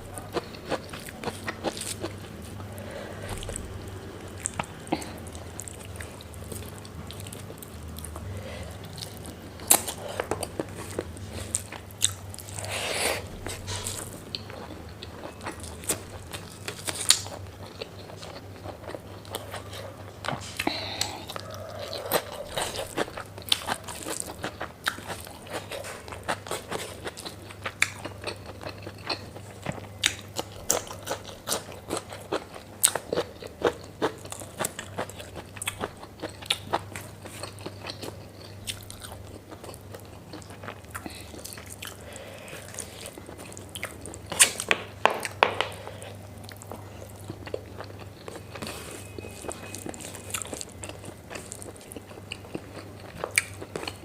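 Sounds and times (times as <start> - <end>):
person chewing and biting: 0.0 - 54.0.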